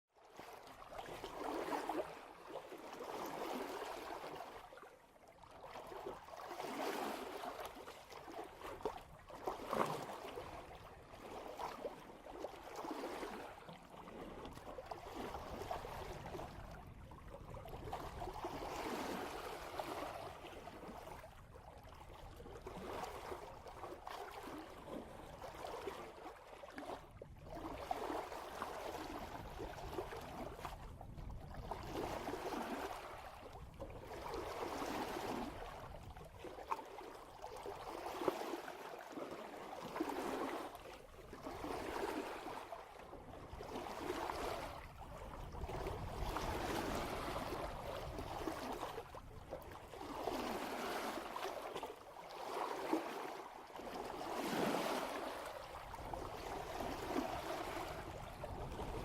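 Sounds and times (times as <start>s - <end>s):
water splashing along boat hull: 0.3s - 59.0s.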